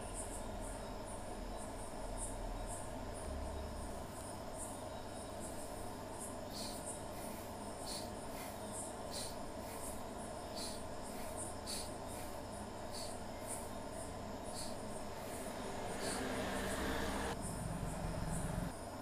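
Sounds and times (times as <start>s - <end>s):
crickets chirping: 0.0s - 19.0s
low background hum: 0.0s - 19.0s.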